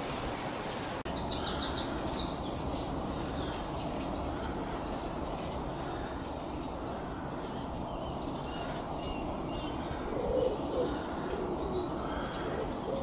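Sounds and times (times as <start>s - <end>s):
low background noise: 0.0s - 13.0s
low bird calls: 1.1s - 13.0s.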